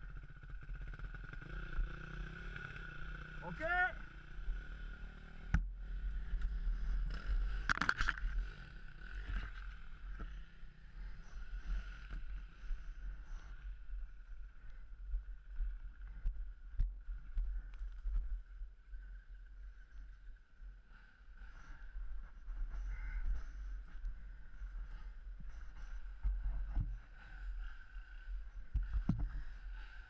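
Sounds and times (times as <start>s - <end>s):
motorbike engine rumbling: 0.0s - 30.0s.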